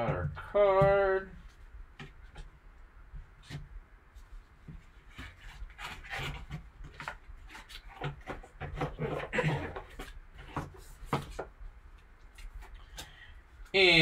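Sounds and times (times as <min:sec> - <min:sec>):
cardboard and foam scraping: 0:00.0 - 0:11.5.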